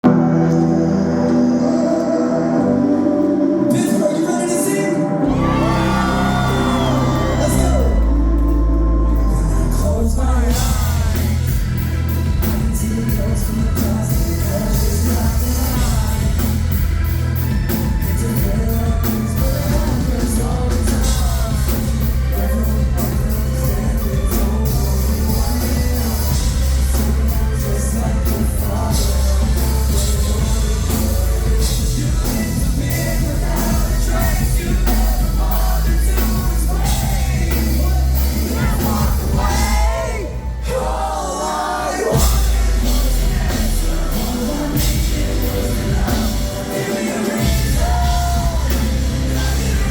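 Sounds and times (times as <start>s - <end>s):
live rock band: 0.0s - 49.9s
person singing: 0.0s - 49.9s.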